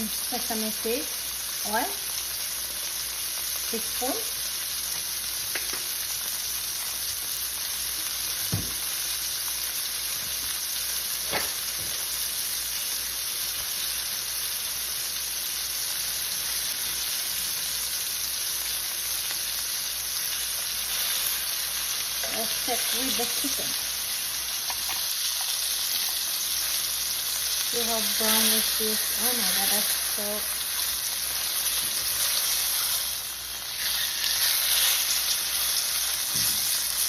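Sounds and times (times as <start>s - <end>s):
meat sizzling in oil: 0.0s - 37.0s.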